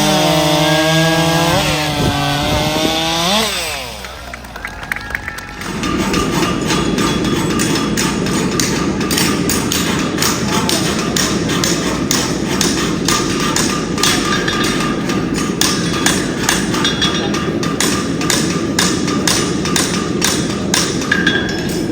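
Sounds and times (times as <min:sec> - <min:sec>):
steady background din: 0:00.0 - 0:21.9.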